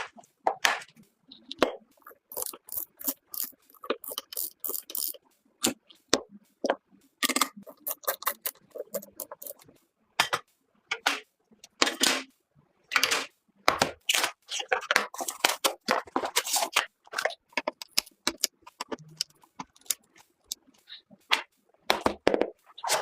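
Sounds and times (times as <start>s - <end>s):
computer parts clicking and tapping: 0.0s - 12.2s, 12.9s - 22.3s.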